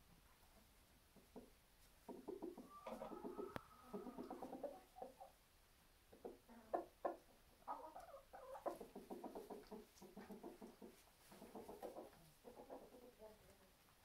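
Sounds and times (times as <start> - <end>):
hens clucking: 0.4 - 5.4, 6.1 - 13.7.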